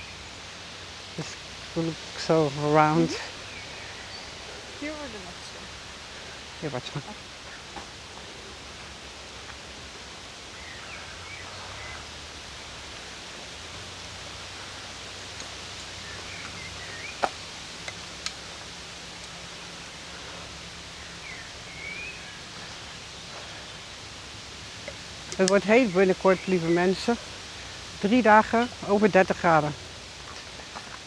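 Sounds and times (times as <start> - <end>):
birds chirping: 0.0 - 31.0
steady rustling hiss: 0.0 - 31.0.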